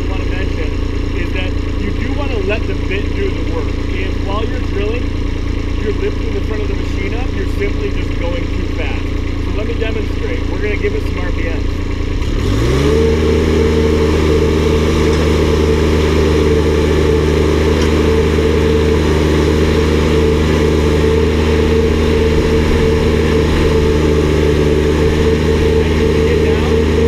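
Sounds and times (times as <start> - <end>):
diesel engine revving: 0.0 - 27.0.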